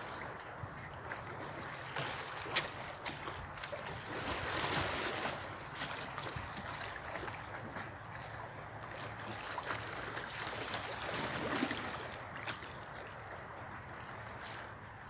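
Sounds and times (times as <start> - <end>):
waves lapping against rocks: 0.0 - 15.0
wind: 0.0 - 15.0.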